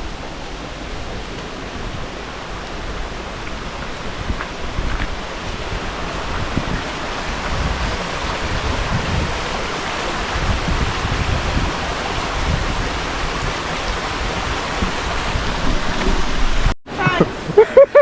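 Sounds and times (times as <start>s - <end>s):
waterfall rushing water: 0.0s - 18.0s.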